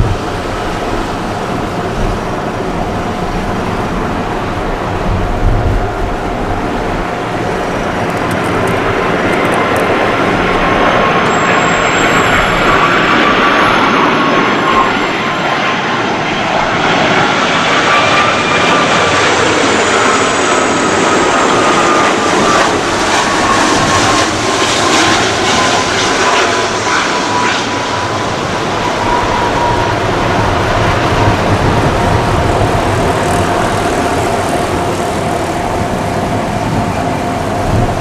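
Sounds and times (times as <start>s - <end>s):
jet engines passing close by: 0.0s - 38.0s.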